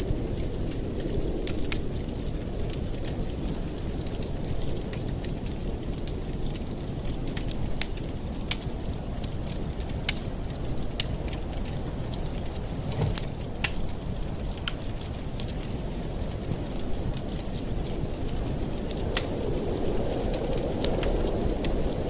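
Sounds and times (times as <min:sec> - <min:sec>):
low rumble of flame: 0:00.0 - 0:22.0
wood crackling and popping: 0:00.0 - 0:22.0.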